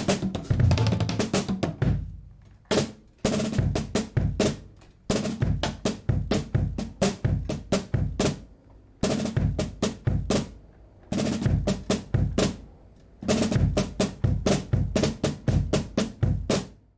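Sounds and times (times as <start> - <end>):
muted drum kit: 0.0 - 16.9.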